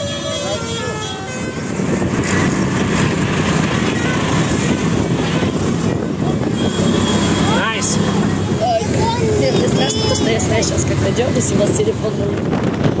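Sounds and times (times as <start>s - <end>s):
auto-rickshaw engine running: 0.0s - 13.0s.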